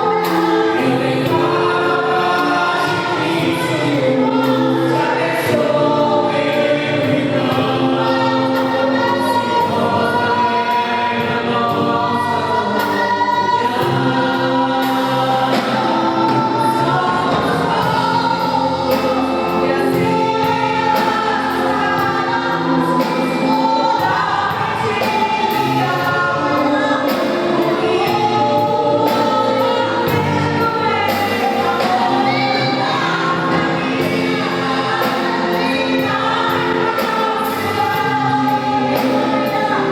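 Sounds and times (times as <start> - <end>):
instrumental accompaniment: 0.0 - 39.9
people singing gospel song: 0.0 - 39.9.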